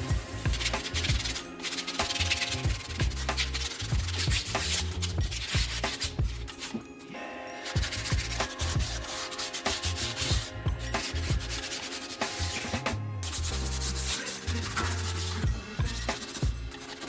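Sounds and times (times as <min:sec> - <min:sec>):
background music with deep bass: 0:00.0 - 0:17.0
rubbing strokes against a surface: 0:00.0 - 0:17.0.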